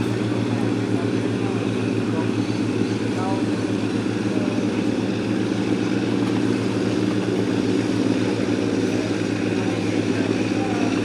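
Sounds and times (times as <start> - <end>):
boat engine droning: 0.0 - 11.0
wind: 0.0 - 11.0.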